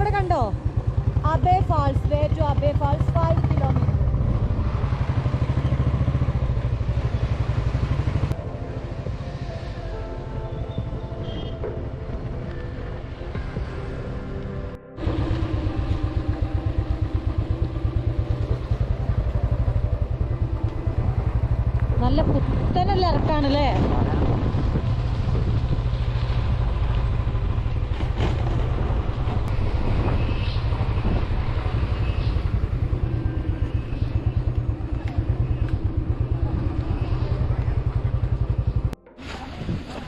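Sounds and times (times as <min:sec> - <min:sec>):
motorcycle engine running: 0:00.0 - 0:09.0, 0:14.9 - 0:40.0.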